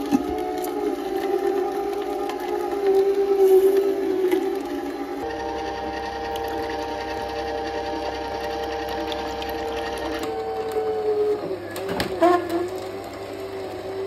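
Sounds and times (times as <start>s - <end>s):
juicer motor whining: 0.0s - 14.0s.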